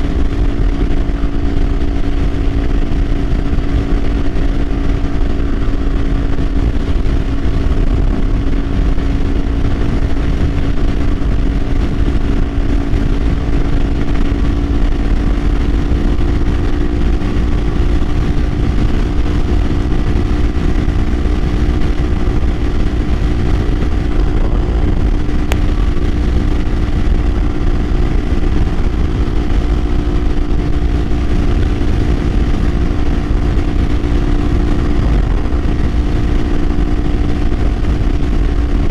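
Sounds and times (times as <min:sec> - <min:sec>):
motorcycle engine cruising: 0:00.0 - 0:38.9
wind rumble on microphone: 0:00.0 - 0:38.9.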